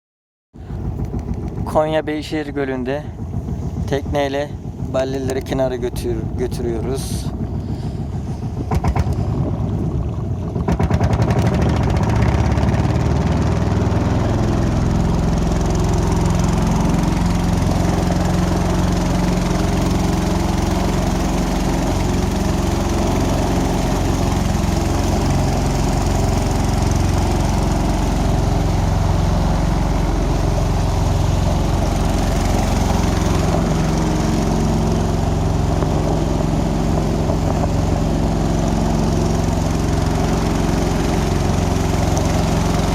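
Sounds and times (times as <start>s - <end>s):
small boat engine running: 0.6s - 42.9s.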